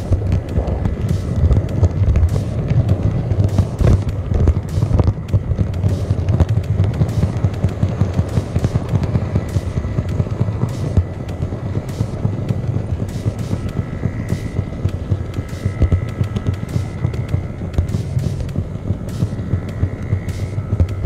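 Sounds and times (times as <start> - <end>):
faint steady whine: 0.0 - 21.0
model train rumbling: 0.0 - 21.0
wheels clicking over rail joints: 0.0 - 21.0.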